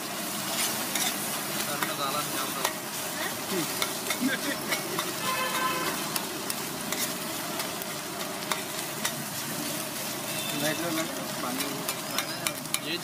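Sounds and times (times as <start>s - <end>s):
egg mixture sizzling in oil: 0.0s - 13.0s
metal spatula scraping a griddle: 0.3s - 2.9s, 3.6s - 13.0s.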